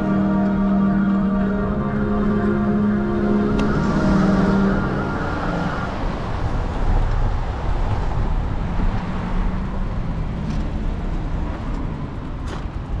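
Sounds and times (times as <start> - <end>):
city traffic road noise: 0.0 - 13.0.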